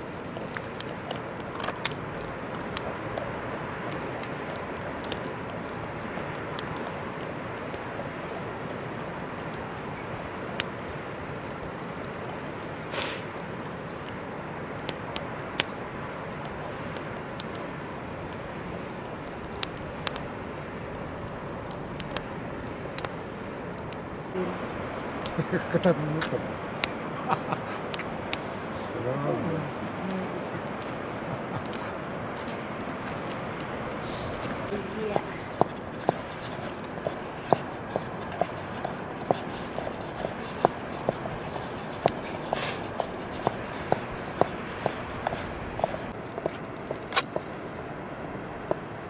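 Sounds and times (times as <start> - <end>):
fire hissing: 0.0 - 49.0
steady rushing noise: 0.0 - 49.0
wood fire crackling: 0.0 - 49.0.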